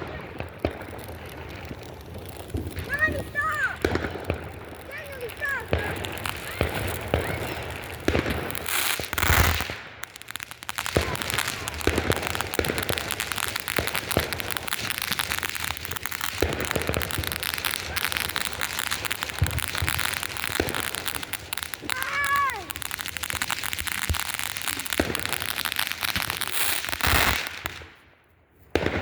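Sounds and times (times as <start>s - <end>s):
firework hissing rush: 0.0s - 27.8s
firework pops: 0.0s - 28.0s
fireworks crackling: 0.0s - 29.0s.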